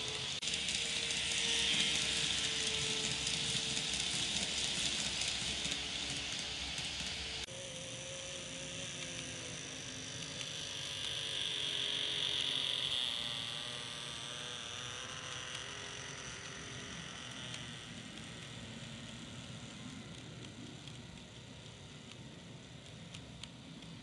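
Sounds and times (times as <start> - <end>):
model train whine and rattle: 0.0 - 24.0.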